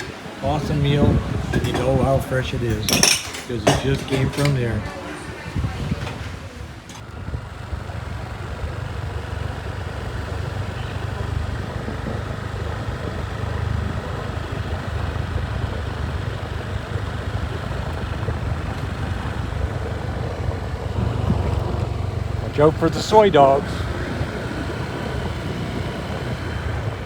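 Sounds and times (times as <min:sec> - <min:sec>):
motorcycle engine rumble: 0:00.0 - 0:27.0
road noise: 0:00.0 - 0:27.0.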